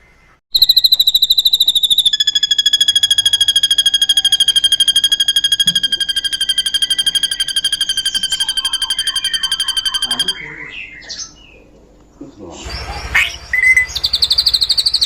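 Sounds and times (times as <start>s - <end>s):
faint bird chirps: 0.0s - 15.0s
bird singing a fast trill: 0.5s - 11.7s, 12.8s - 15.0s.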